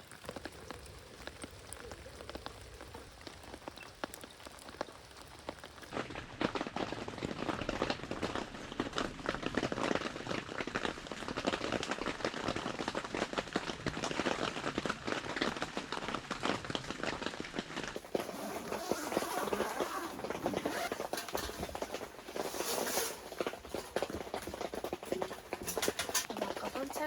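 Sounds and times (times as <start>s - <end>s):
rain pattering on a tent: 0.0s - 27.0s.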